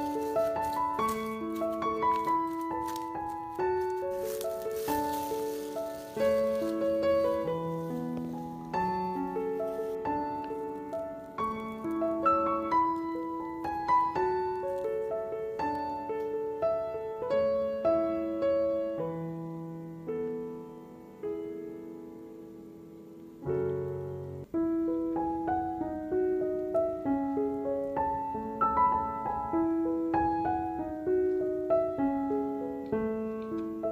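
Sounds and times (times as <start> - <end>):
gentle piano melody: 0.0 - 33.9.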